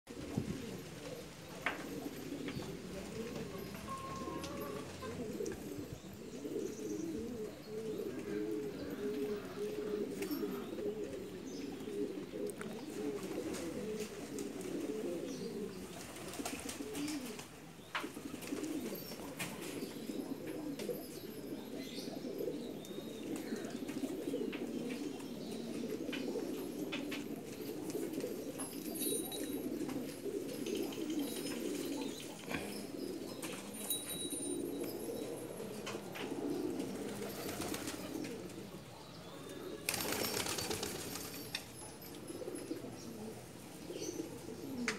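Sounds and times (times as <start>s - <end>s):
pigeons cooing: 0.1s - 44.9s.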